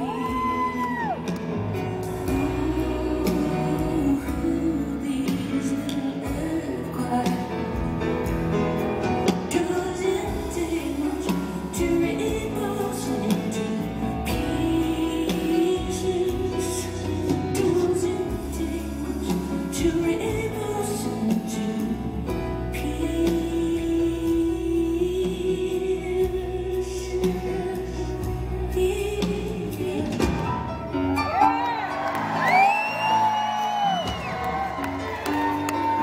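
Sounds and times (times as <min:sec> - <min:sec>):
woman singing: 0:00.0 - 0:31.9
grand piano playing: 0:00.0 - 0:36.0.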